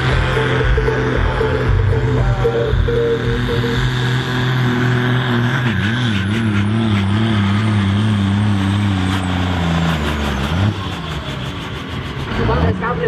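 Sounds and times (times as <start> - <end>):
tractor diesel engine straining: 0.0 - 13.0.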